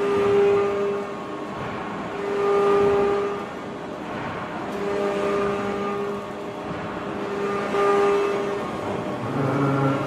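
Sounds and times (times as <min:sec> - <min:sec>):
constant shop noise: 0:00.0 - 0:10.0
steady whining machine tone: 0:00.0 - 0:10.0.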